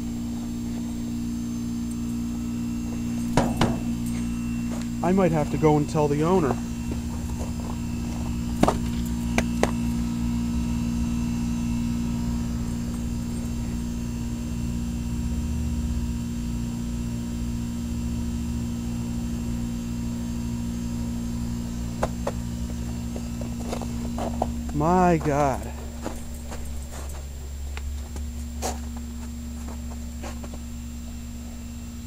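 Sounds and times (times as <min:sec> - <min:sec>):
heat pump electrical hum: 0:00.0 - 0:32.0.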